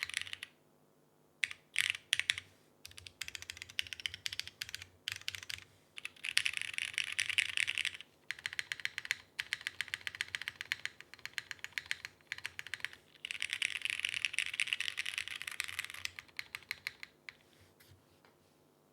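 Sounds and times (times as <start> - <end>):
mechanical keyboard typing: 0.0 - 0.5, 1.4 - 17.4.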